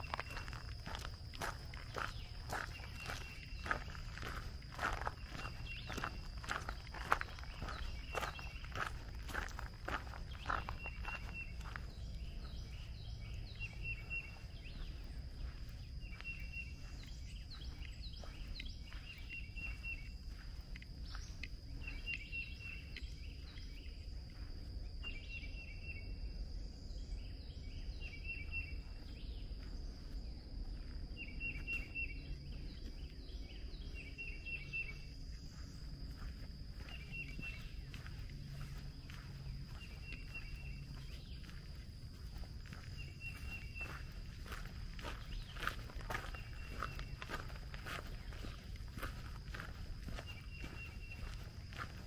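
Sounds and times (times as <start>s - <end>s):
low outdoor rumble: 0.0s - 52.0s
songbird singing: 0.0s - 52.0s.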